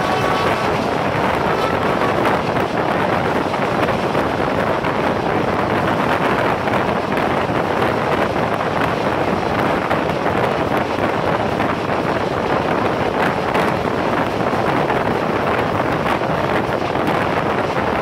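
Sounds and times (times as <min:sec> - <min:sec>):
passenger train running: 0:00.0 - 0:18.0
wind buffeting microphone: 0:00.0 - 0:18.0.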